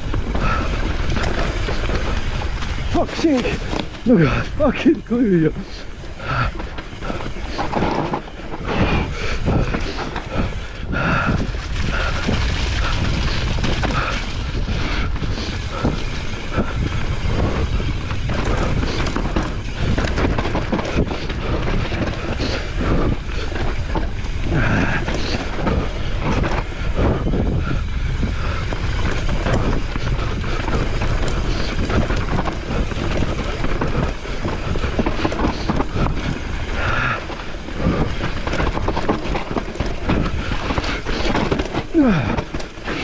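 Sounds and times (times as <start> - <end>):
bike knocking and rattling: 0.0 - 43.0
bike tyres rumbling on rough trail: 0.0 - 43.0
wind buffeting microphone: 0.0 - 43.0.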